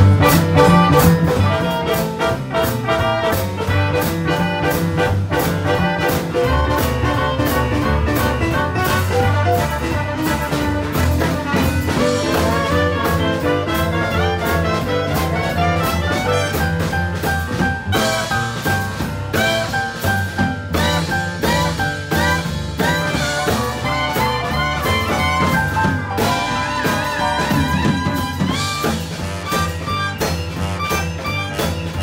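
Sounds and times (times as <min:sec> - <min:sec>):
clarinet: 0:00.0 - 0:32.0
piano bass line: 0:00.0 - 0:32.0
trumpet: 0:00.0 - 0:32.0.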